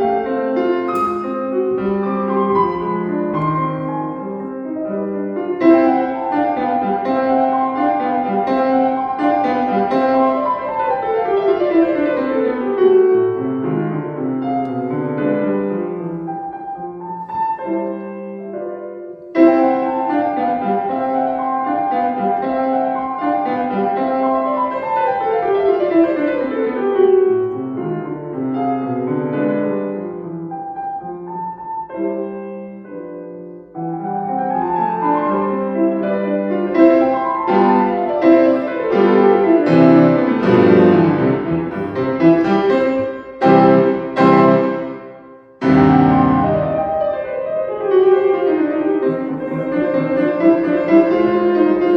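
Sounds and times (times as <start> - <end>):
solo piano classical piece: 0.0 - 51.9.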